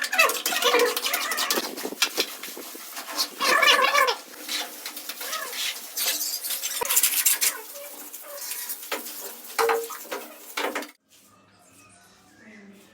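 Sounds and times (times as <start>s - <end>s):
trowel scraping plaster on wall: 0.0s - 11.0s.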